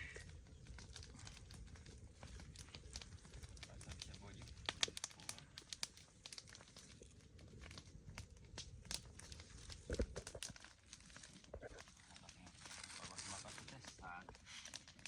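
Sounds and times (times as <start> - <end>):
crinkling and clicking handling: 0.0 - 15.0.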